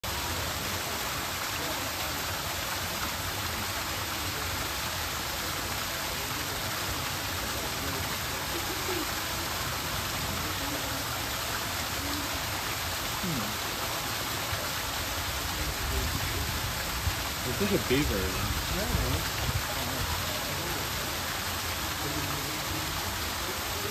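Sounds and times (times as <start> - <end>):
waterfall splashing into pool: 0.0 - 23.9.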